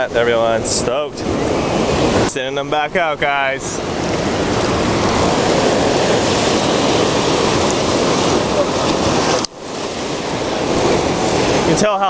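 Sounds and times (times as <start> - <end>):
wind on microphone: 0.0 - 11.8
ocean surf washing ashore: 0.0 - 12.0.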